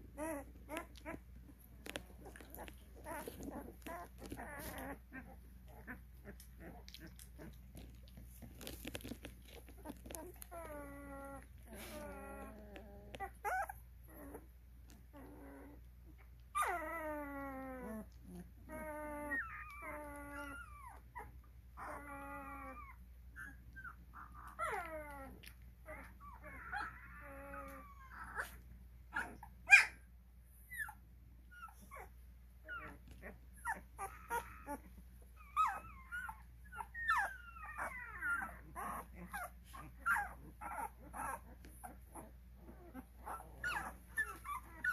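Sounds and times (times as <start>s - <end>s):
puppies whimpering and squealing: 0.0s - 44.9s.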